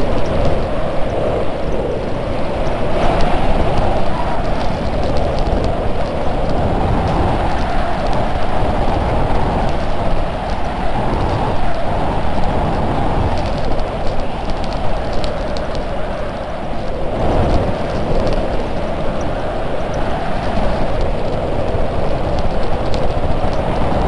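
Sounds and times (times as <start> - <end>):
rattling ticks: 0.0 - 24.0
sled runners rushing on ice: 0.0 - 24.0.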